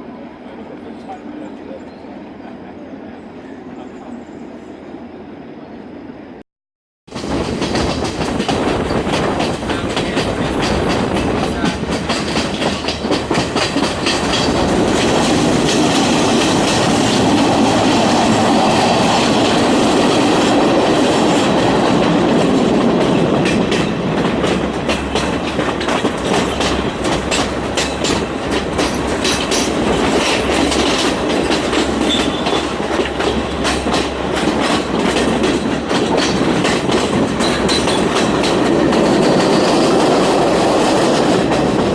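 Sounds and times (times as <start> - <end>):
train wheels clattering on track: 7.1 - 41.9.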